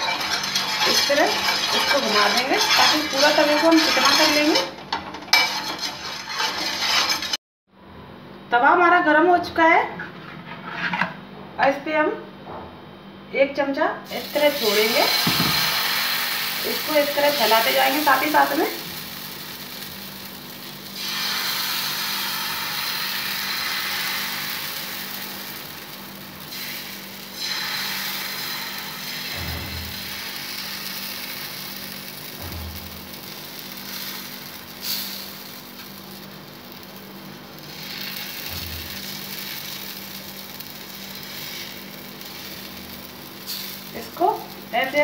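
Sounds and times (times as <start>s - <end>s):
batter sizzling on a griddle: 0.0s - 4.7s, 5.3s - 7.4s, 14.1s - 45.0s
steel spoon scraping griddle: 0.0s - 7.4s, 14.5s - 32.4s, 33.2s - 36.9s, 37.6s - 45.0s.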